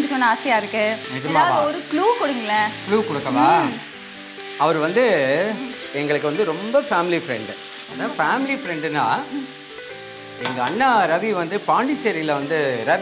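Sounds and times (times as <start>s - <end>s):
masala sizzling: 0.0s - 13.0s.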